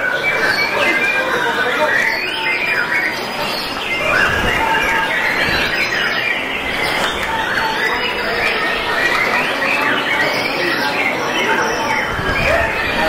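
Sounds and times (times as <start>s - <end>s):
chorus of birds singing: 0.0s - 13.0s.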